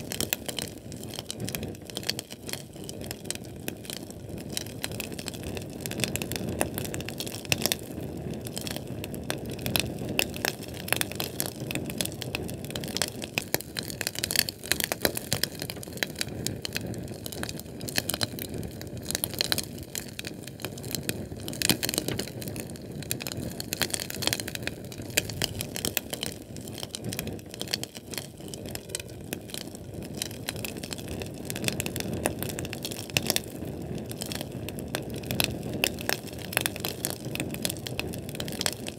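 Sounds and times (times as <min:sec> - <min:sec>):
fire crackling and rumbling: 0:00.0 - 0:38.9.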